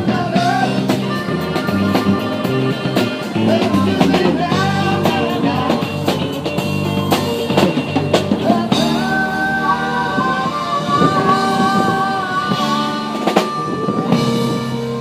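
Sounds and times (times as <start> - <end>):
rock music with drums: 0.0 - 15.0.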